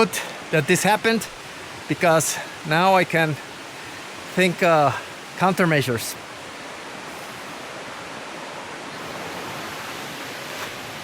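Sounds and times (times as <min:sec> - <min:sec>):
stream and waterfall rushing: 0:00.0 - 0:11.0.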